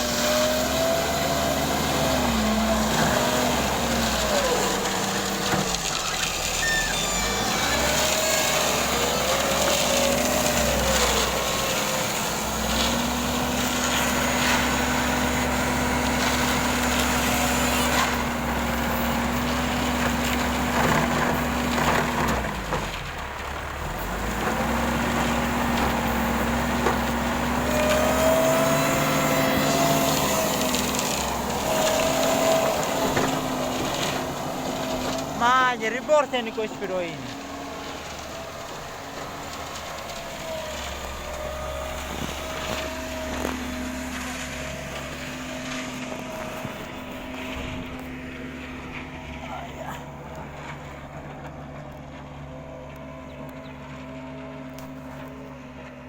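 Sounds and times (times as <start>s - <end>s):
heavy machine engine under load: 0.0s - 56.0s.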